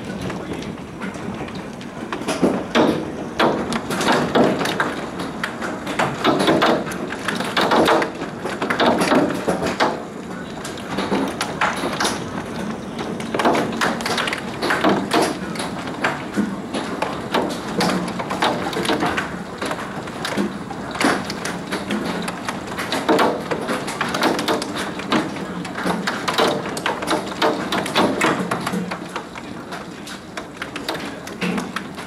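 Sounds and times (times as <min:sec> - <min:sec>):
hailstones pelting down: 0:00.0 - 0:32.0.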